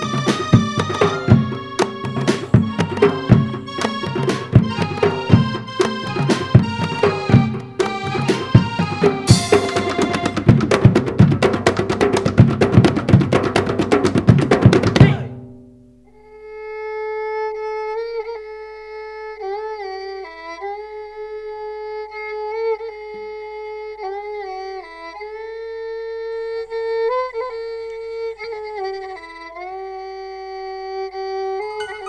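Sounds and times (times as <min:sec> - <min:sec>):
solo violin melody: 0:00.0 - 0:10.6, 0:16.4 - 0:32.0.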